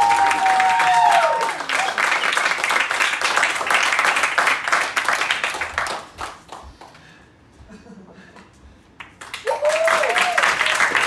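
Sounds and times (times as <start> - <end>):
small audience applauding: 0.0 - 7.0, 9.0 - 11.0.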